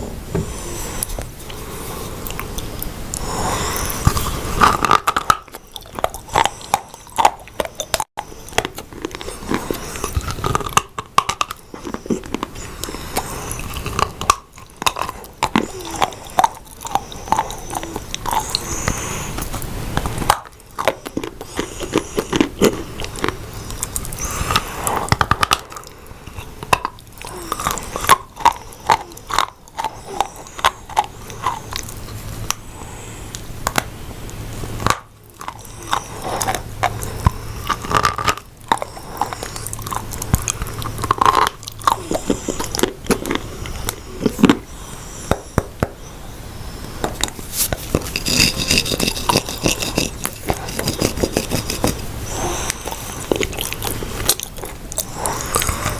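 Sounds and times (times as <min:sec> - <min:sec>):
crunchy biting and chewing: 0:00.4 - 0:55.9.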